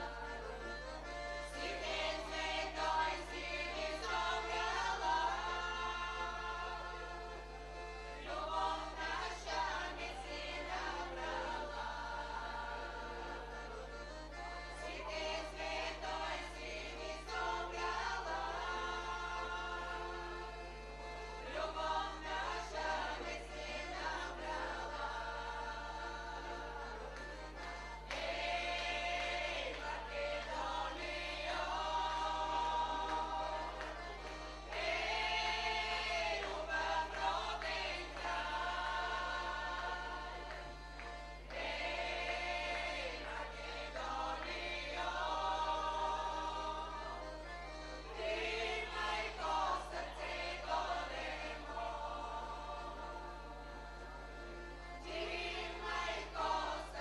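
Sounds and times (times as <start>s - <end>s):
accordion: 0.0s - 57.0s
women's choir singing in unison: 0.0s - 57.0s.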